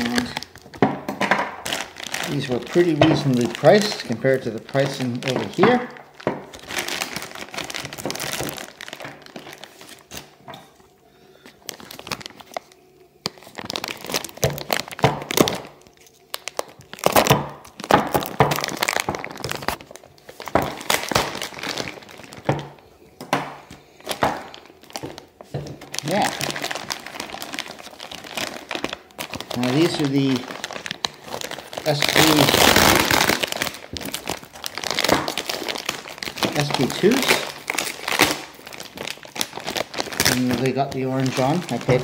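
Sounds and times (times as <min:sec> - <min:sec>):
plastic and cardboard crinkling: 0:00.0 - 0:42.0.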